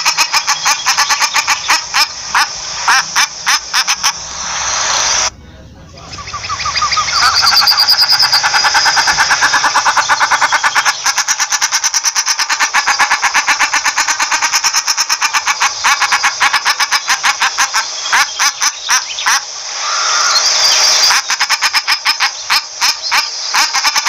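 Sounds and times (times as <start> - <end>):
duck calling harsh repeated notes: 0.0 - 4.3, 6.4 - 19.5, 21.1 - 24.0
brief hiss: 0.0 - 23.8.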